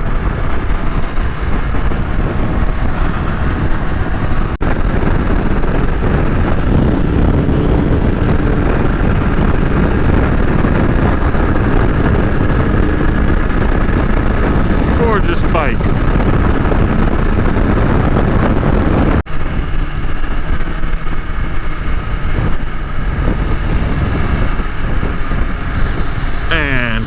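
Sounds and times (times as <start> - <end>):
motorcycle engine: 0.0 - 27.0
wind and road noise: 0.0 - 27.0.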